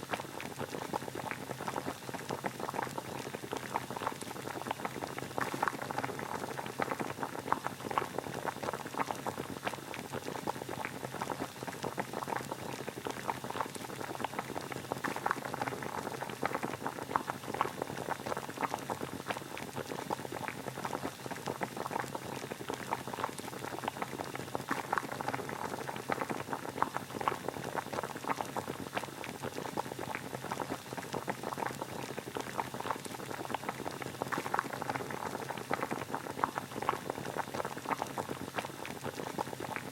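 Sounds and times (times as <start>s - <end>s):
water boiling: 0.0s - 39.9s.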